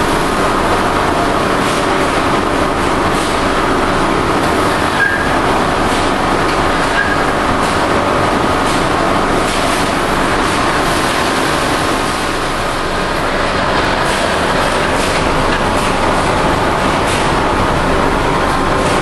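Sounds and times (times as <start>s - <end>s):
machinery rumble and hiss: 0.0s - 19.0s.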